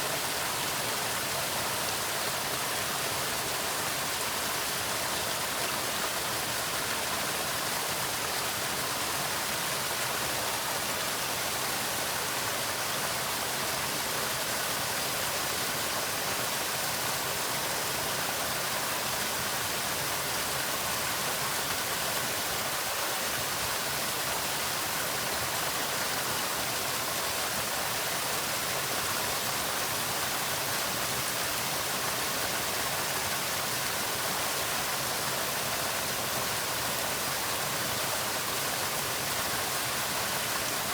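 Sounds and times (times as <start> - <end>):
waterfall splashing: 0.0 - 40.9.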